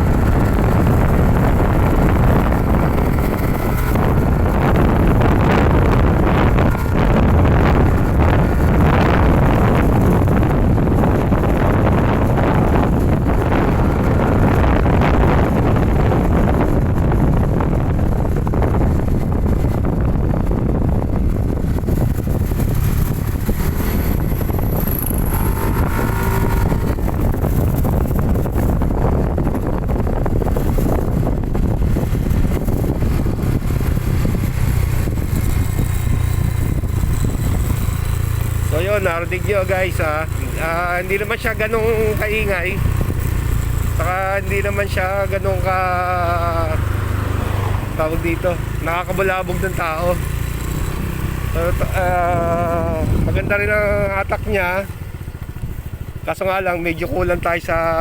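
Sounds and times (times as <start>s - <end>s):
motorcycle exhaust note: 0.0s - 58.0s
wind buffeting microphone: 0.0s - 58.0s.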